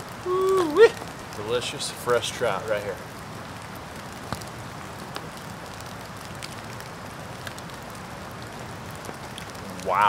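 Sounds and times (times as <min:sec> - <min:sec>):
campfire crackling and popping: 0:00.0 - 0:10.0
steady hiss: 0:00.0 - 0:10.0.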